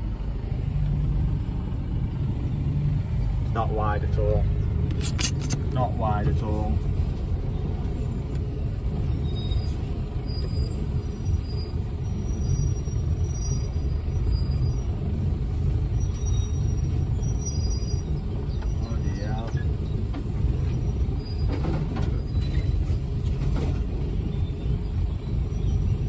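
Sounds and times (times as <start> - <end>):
lorry diesel engine rumbling: 0.0 - 26.0.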